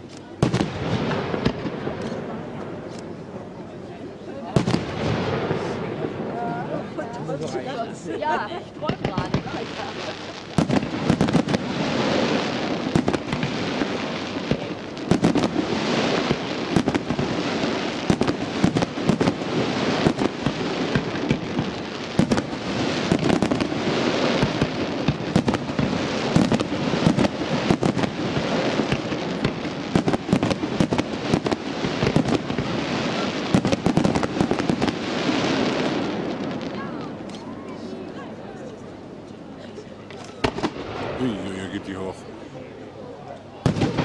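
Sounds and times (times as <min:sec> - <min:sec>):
fireworks bangs and crackling: 0:00.0 - 0:38.1, 0:40.0 - 0:42.4, 0:43.5 - 0:44.0.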